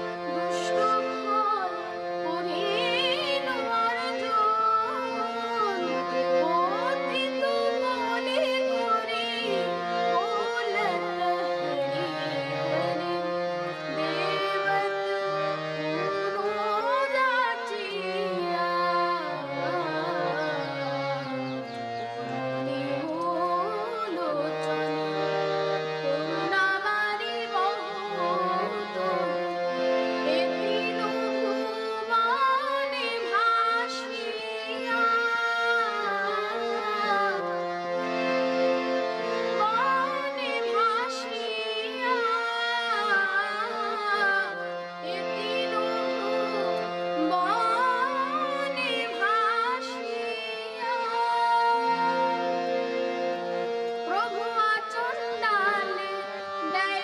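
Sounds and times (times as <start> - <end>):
harmonium notes: 0.0 - 57.0
boy singing: 0.2 - 21.4, 22.6 - 25.1, 26.0 - 29.5, 30.2 - 37.6, 39.5 - 52.7, 54.0 - 57.0.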